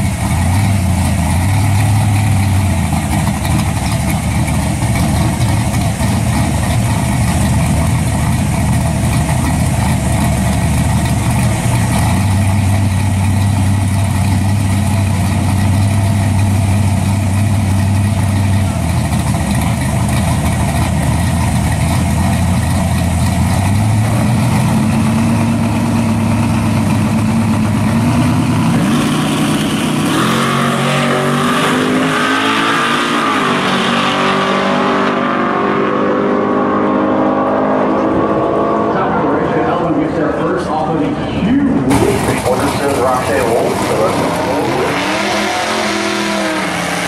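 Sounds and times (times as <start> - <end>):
drag racing car engines: 0.0 - 47.0.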